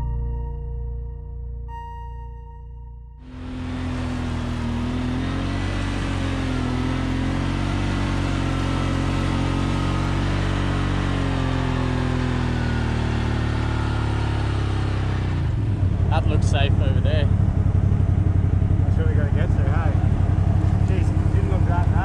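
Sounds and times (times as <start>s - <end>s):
engine running: 3.2s - 22.0s.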